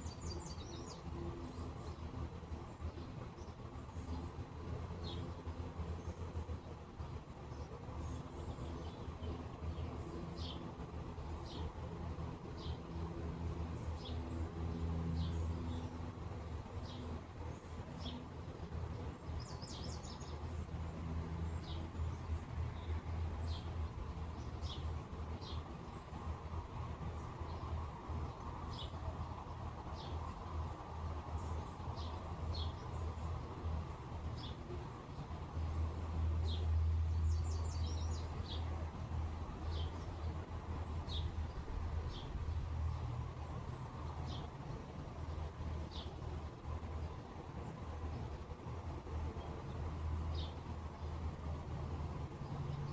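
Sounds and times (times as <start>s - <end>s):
low outdoor rumble: 0.0s - 52.9s
small birds chirping: 0.0s - 52.9s.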